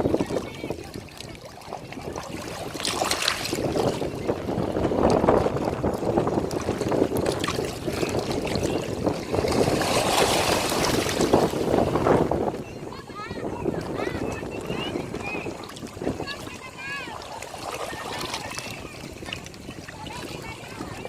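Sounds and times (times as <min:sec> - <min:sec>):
ocean waves washing onto shore: 0:00.0 - 0:21.0.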